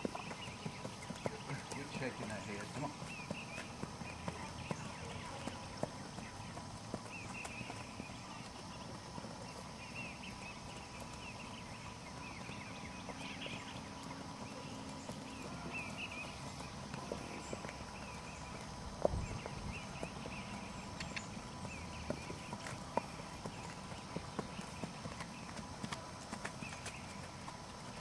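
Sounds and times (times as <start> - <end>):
horse hoofbeats on grass: 0.0 - 28.0.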